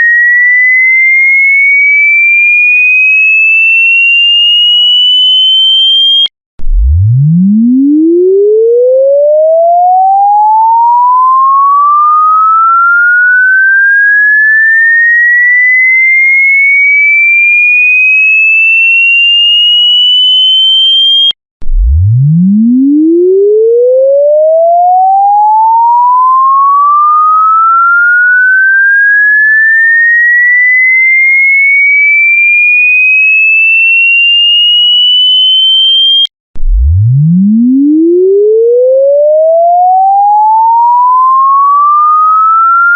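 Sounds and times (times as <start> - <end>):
sine tone sweeping upward: 0.0 - 42.9.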